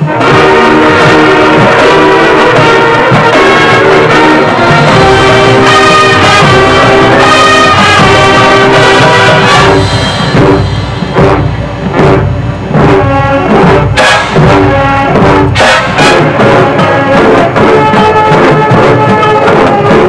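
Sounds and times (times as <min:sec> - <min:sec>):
marching band playing: 0:00.0 - 0:20.0.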